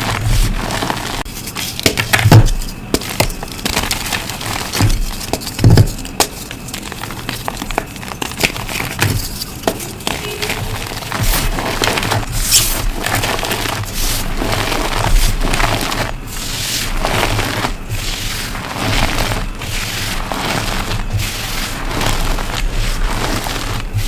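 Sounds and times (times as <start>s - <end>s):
chalk crunching: 0.0s - 24.0s.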